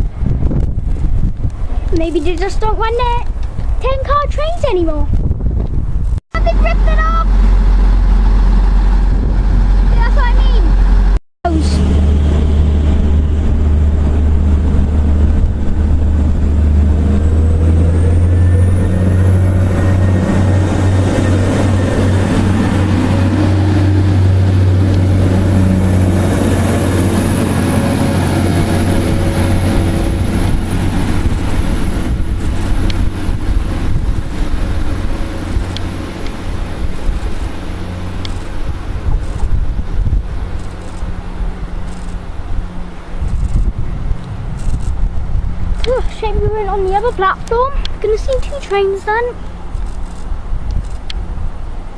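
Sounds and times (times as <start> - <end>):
diesel train engine humming: 5.8 - 51.9.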